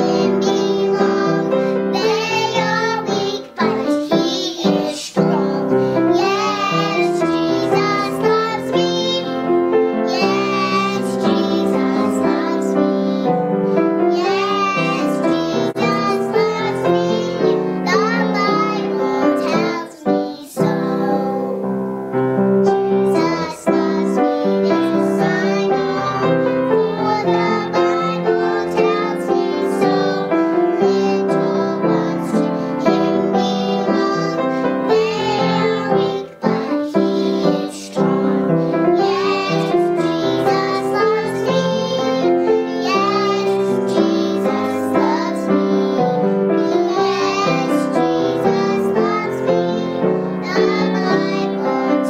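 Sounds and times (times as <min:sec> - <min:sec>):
girls singing together: 0:00.0 - 0:21.8, 0:22.6 - 0:52.0
piano accompaniment: 0:00.0 - 0:52.0.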